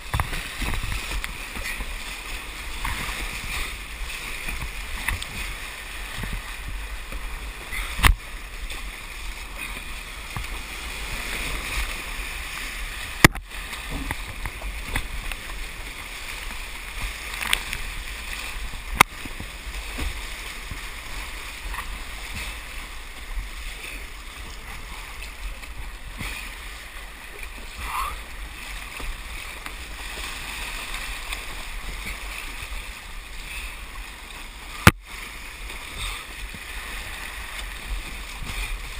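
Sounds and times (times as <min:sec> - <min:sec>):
paddle strokes in water: 0:00.0 - 0:38.9
whitewater rushing and splashing: 0:00.0 - 0:38.9.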